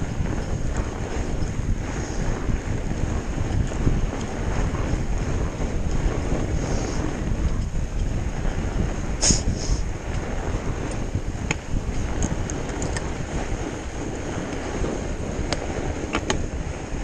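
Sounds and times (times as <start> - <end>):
bike rolling on snow: 0.0 - 17.0
wind buffeting microphone: 0.0 - 17.0.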